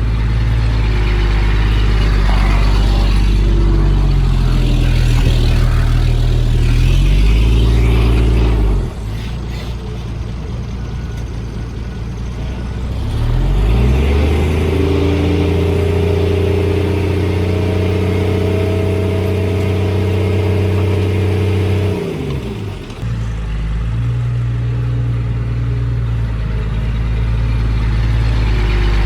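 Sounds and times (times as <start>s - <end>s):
diesel engine revving: 0.0s - 25.6s, 26.2s - 29.0s.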